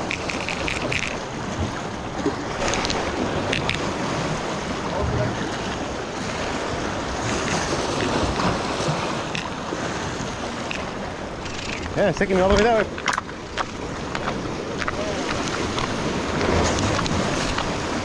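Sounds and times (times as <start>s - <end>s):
surf breaking on rocks: 0.0s - 18.0s.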